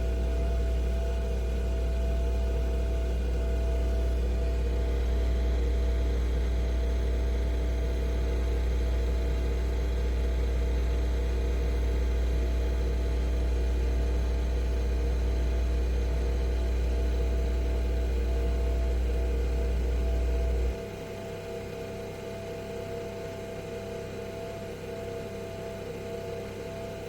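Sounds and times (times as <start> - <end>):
coffee machine motor and pump hum: 0.0 - 27.0.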